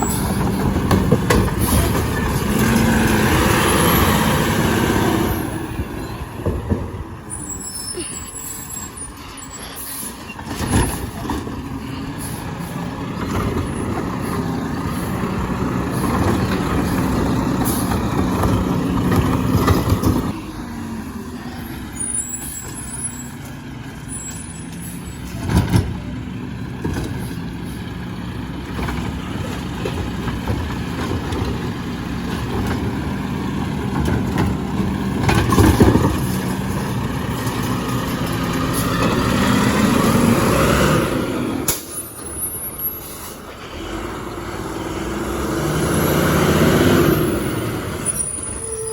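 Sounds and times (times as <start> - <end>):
garbage truck engine running: 0.0 - 48.9.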